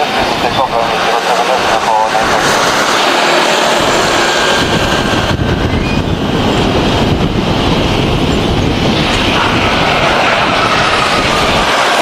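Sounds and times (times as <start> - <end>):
jet engines running loud: 0.0 - 12.0.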